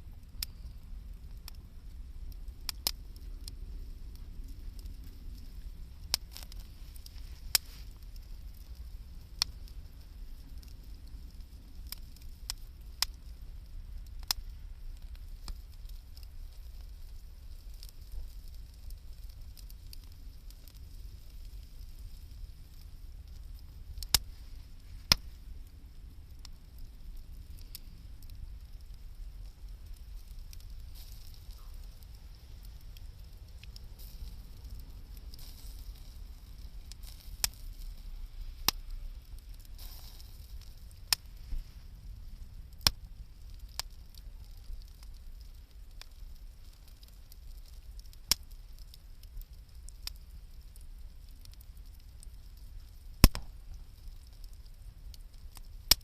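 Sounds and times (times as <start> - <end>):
burning wood popping: 0.0 - 56.0
campfire crackling: 0.0 - 56.0.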